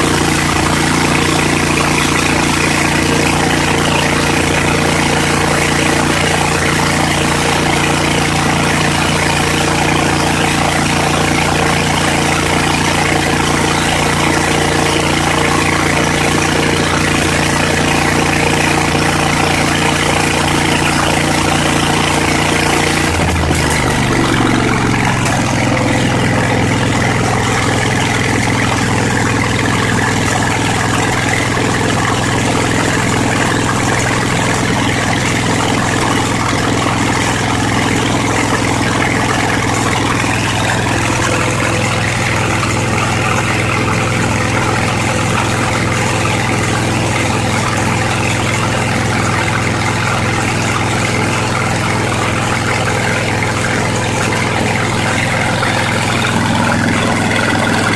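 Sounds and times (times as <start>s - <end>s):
engine running: 0.0s - 57.9s.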